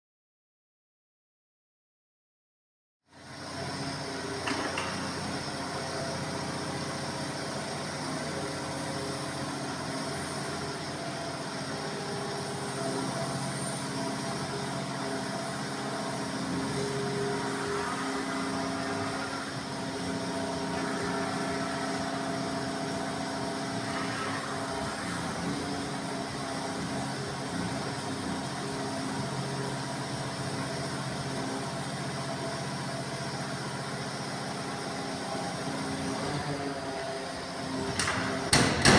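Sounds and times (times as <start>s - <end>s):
diesel excavator engine running: 3.2s - 38.9s.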